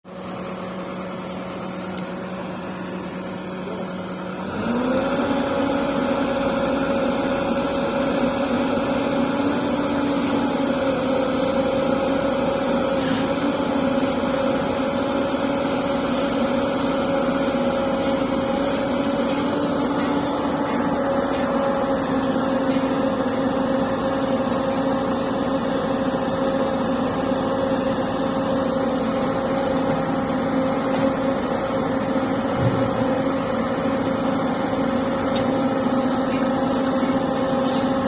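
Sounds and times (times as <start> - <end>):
excavator diesel engine revving: 3.1 - 38.0.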